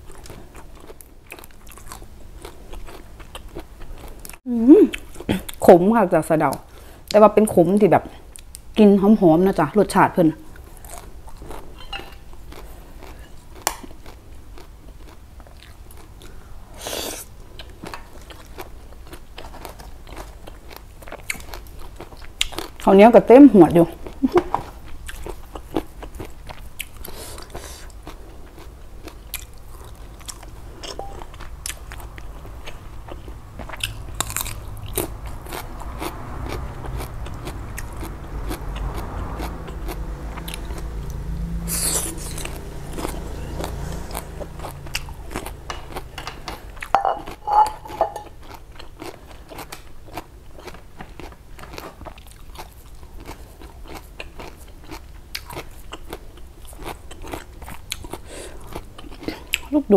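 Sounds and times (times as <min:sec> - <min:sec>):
chewing and crunching food: 0:00.0 - 0:08.9, 0:10.4 - 0:59.9.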